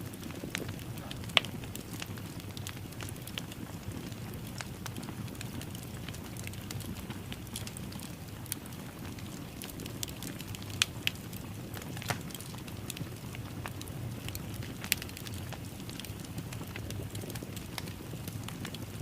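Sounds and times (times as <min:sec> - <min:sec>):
fire crackling in fireplace: 0:00.0 - 0:19.0.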